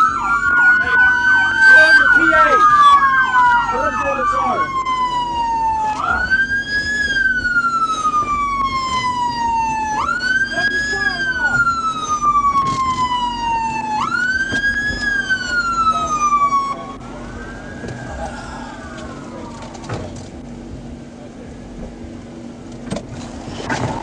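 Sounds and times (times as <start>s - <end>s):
police siren wailing: 0.0s - 20.4s
faint siren: 0.0s - 20.7s
steady low hum: 2.5s - 24.0s.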